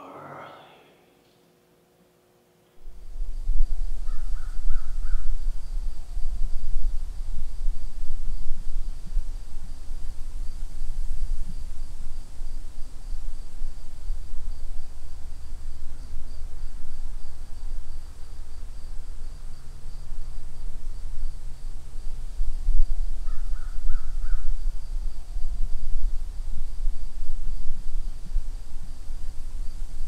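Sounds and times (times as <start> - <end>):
insects chirring: 2.8 - 30.0
low rumble: 2.8 - 30.0.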